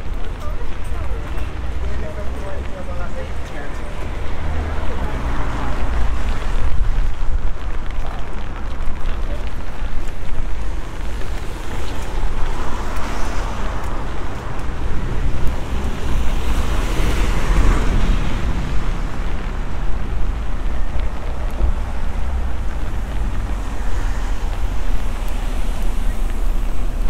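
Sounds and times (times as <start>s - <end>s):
tyres hissing on wet road: 0.0s - 27.0s
vehicle passing: 0.7s - 27.0s
wind rumble on microphone: 3.8s - 27.0s.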